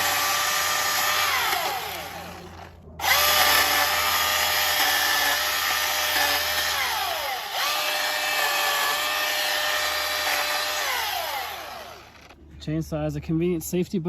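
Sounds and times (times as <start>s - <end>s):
electric chainsaw whining: 0.0s - 12.4s.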